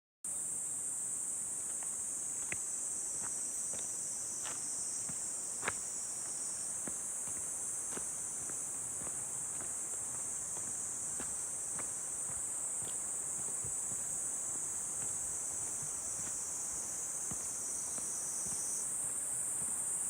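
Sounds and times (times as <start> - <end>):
insects buzzing: 0.3 - 20.0.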